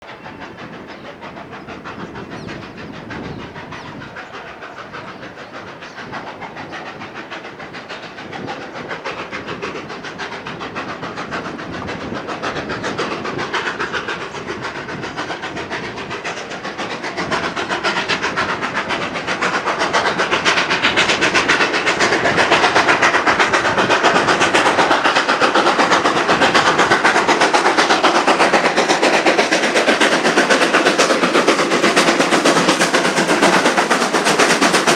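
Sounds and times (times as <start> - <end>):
steam train running: 0.0 - 34.9.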